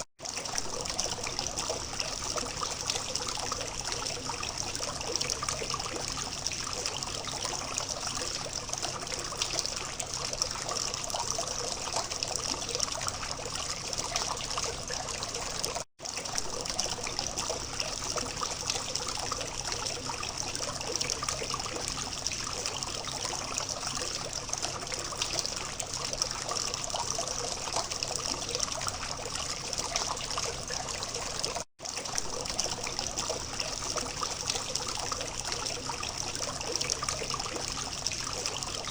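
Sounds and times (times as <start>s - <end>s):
fountain water trickling and splashing: 0.2s - 38.9s.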